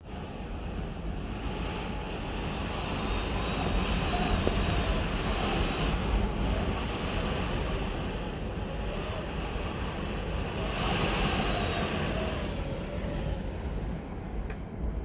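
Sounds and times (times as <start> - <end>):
faint wind whistling: 0.0 - 15.0
strong wind with deep rumble: 0.0 - 15.0.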